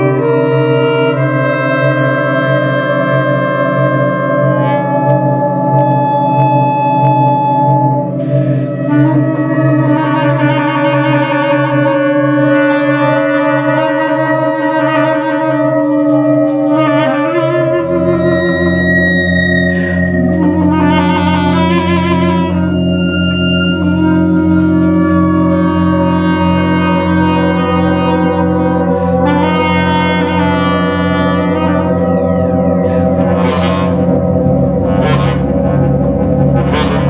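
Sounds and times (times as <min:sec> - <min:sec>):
bass clarinet: 0:00.0 - 0:37.0
steady low drone: 0:00.0 - 0:37.0
theremin: 0:00.0 - 0:37.0.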